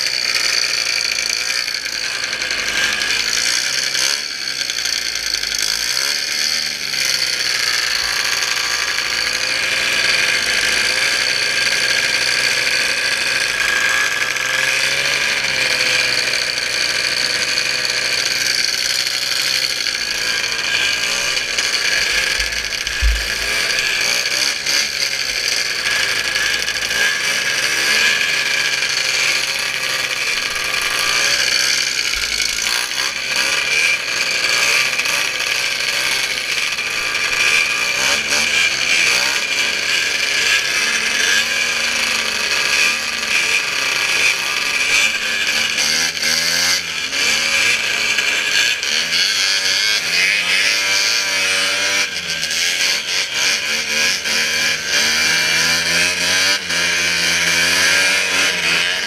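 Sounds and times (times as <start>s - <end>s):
snowmobile engine whining at high revs: 0.0s - 59.0s.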